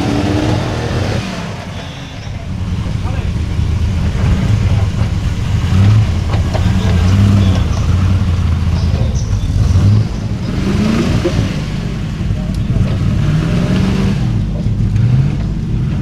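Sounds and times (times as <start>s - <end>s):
car engine working under load: 0.0s - 16.0s.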